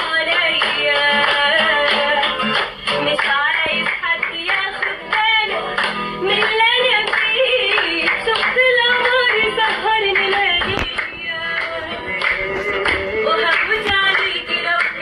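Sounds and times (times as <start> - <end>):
music with steady beat: 0.0 - 15.0
woman singing: 0.0 - 15.0.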